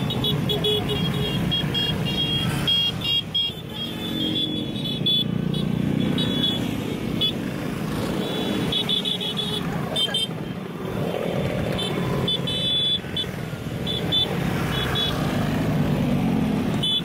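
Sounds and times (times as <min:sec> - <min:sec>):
scooter engines running: 0:00.0 - 0:17.0.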